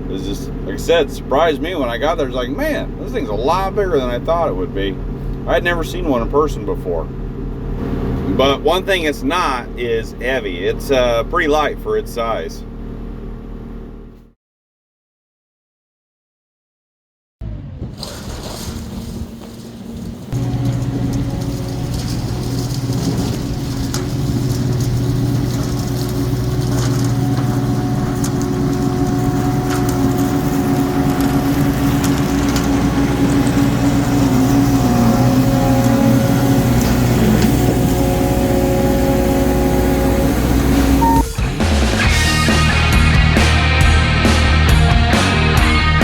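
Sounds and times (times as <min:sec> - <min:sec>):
skid steer engine running: 0:00.0 - 0:14.4, 0:17.4 - 0:46.0.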